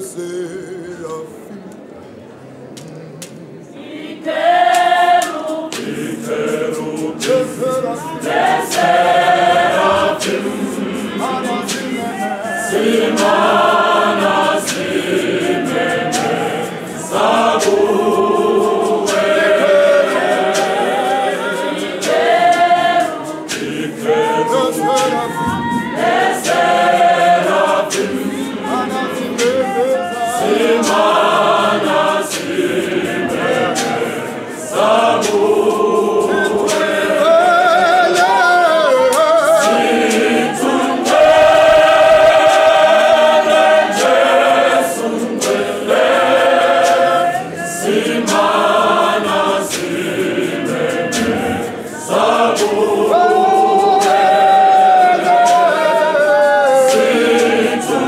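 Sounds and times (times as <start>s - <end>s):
choir singing a hymn: 0.0s - 1.8s, 3.6s - 58.0s.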